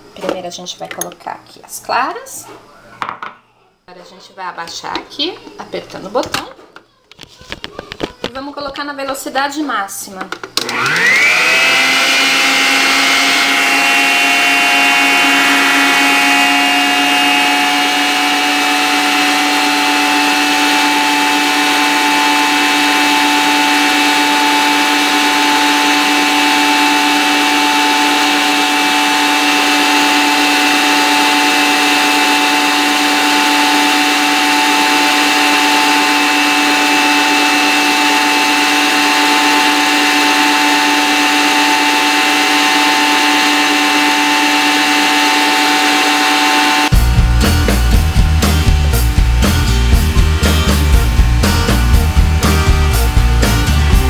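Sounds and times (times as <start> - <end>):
stand mixer motor whine: 10.6 - 54.0.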